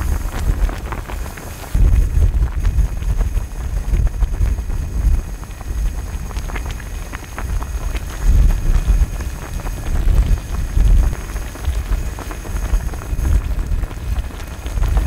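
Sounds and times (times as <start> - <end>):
broth boiling with popping bubbles: 0.0 - 15.0
wind rumbling on microphone: 0.0 - 15.0.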